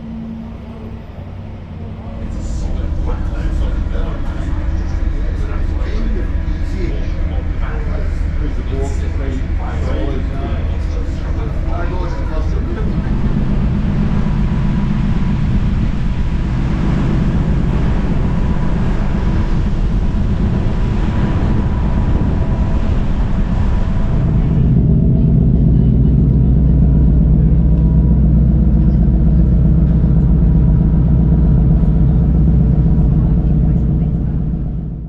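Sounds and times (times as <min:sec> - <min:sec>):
ferry engine rumble: 0:00.0 - 0:35.0.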